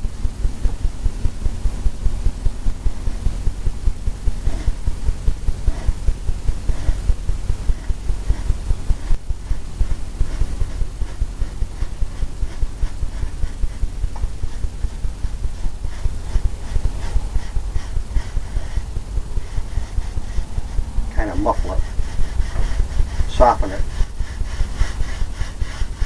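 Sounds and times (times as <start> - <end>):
paintbrush dabbing on canvas: 0.2 - 26.0.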